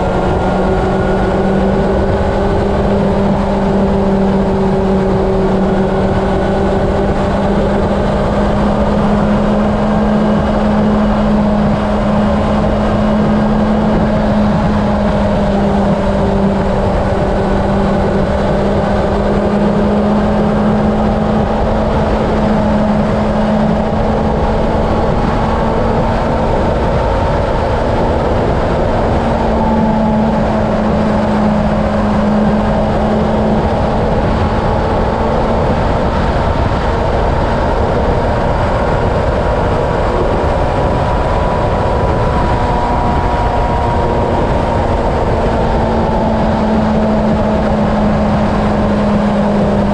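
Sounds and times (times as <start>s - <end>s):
motorcycle engine droning: 0.0s - 49.9s
rushing wind: 0.0s - 49.9s.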